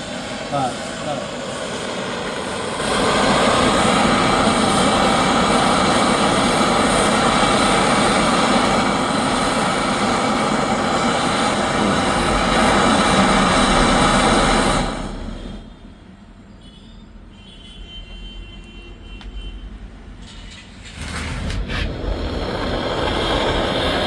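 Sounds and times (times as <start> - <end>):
pressurised air rushing: 0.0 - 16.0, 20.6 - 24.0.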